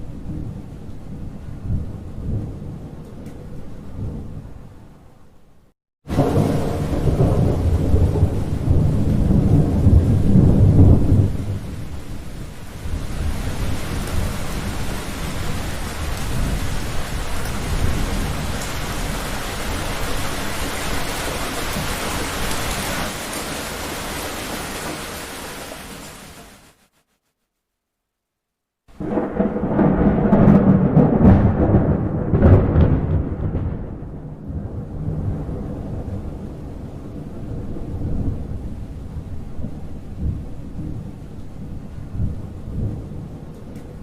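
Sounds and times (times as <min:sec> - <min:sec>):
thunder rumbling: 0:00.0 - 0:05.0, 0:06.1 - 0:25.4, 0:28.9 - 0:44.0
heavy rain: 0:06.0 - 0:26.9, 0:28.9 - 0:44.0.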